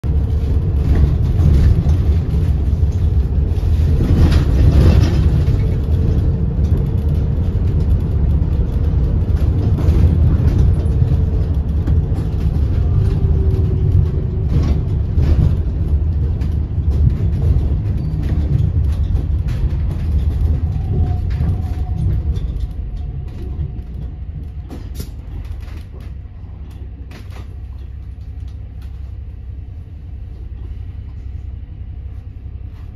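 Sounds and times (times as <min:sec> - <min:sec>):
vehicle rumble from on board: 0:00.0 - 0:32.9.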